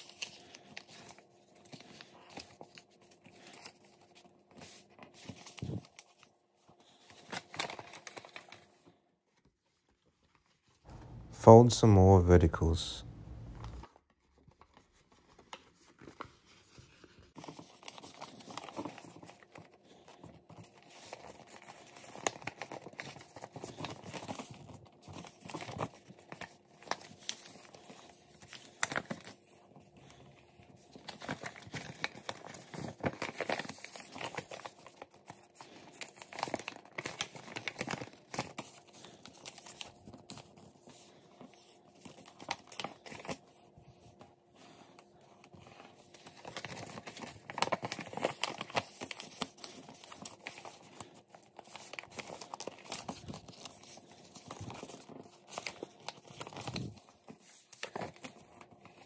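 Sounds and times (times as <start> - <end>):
paper crinkling and rustling: 0.0 - 59.0.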